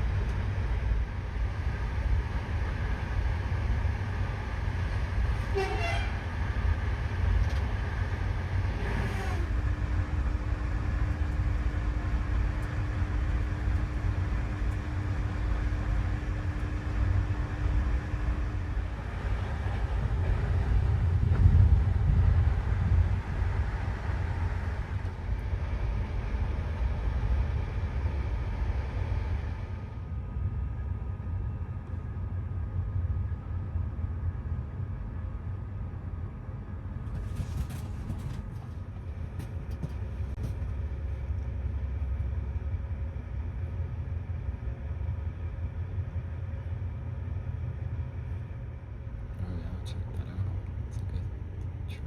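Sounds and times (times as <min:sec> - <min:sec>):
passenger train rumbling: 0:00.0 - 0:52.0.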